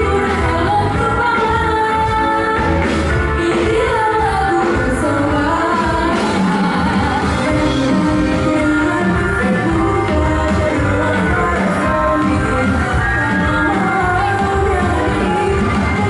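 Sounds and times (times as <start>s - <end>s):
band playing: 0.0s - 16.0s
person singing: 0.0s - 16.0s.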